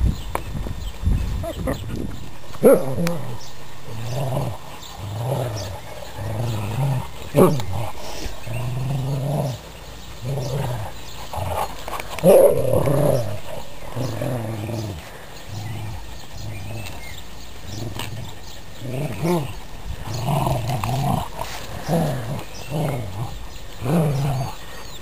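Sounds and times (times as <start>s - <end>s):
dogs growling: 1.4s - 25.0s.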